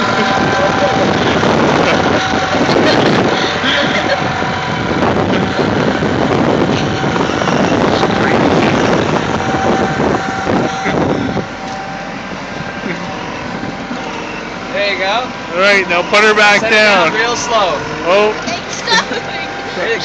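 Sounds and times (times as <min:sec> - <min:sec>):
excavator diesel engine under load: 0:00.0 - 0:20.0
hydraulic whine: 0:00.0 - 0:20.0.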